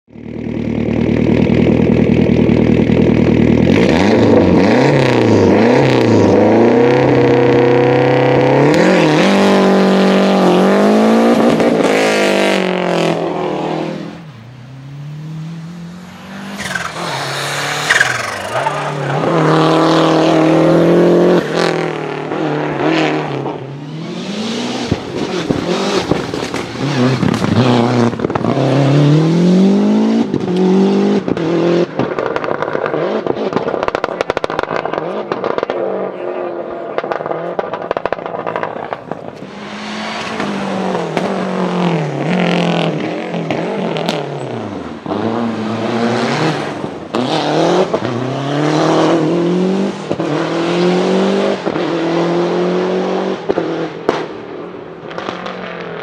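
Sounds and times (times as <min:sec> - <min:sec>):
rally car engine revving: 0:00.1 - 0:56.0.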